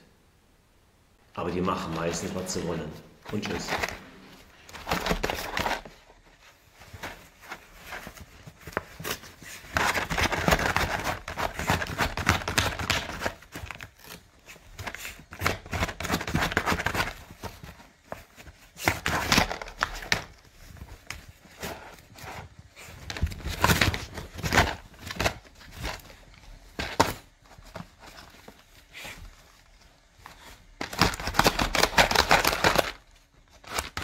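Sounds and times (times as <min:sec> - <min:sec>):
dog tearing crinkly packaging: 0:03.3 - 0:34.0.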